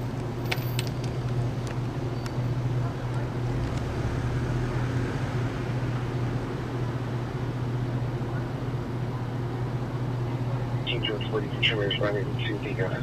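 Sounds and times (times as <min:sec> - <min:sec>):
low mechanical drone: 0:00.0 - 0:13.0
street noise hiss: 0:00.0 - 0:13.0.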